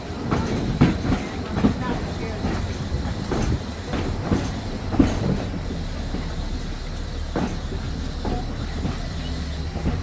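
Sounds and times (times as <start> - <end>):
trolley car rumbling: 0.0 - 10.0
wheels clicking on rails: 0.0 - 10.0.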